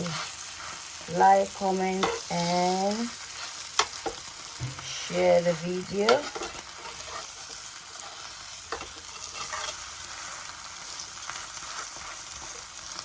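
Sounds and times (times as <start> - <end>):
omelette sizzling in a pan: 0.0 - 13.0.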